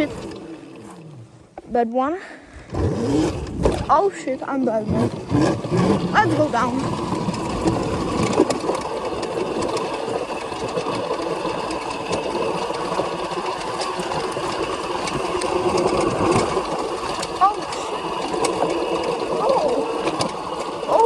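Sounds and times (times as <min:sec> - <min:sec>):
electric bike motor whining: 0:00.0 - 0:01.6, 0:02.6 - 0:03.9, 0:04.8 - 0:21.0
bike clicks and rattles: 0:02.7 - 0:21.0.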